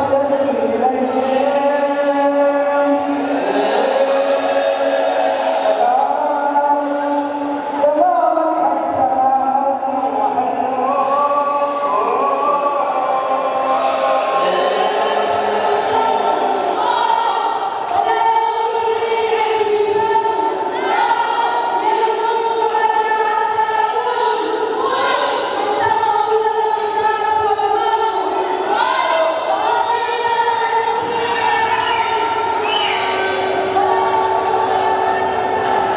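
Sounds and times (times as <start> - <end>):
group of voices singing: 0.0 - 35.9.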